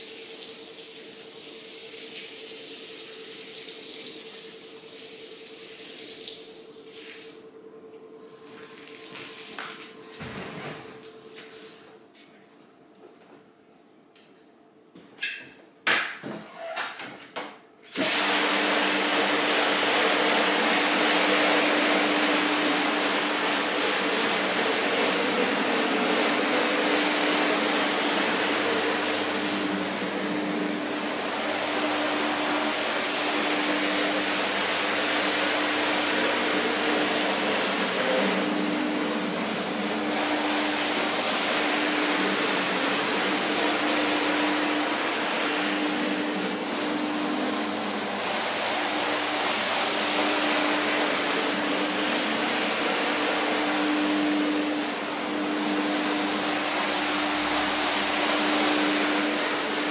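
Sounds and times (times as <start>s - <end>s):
vacuum machine running: 0.0s - 12.3s, 17.9s - 59.9s.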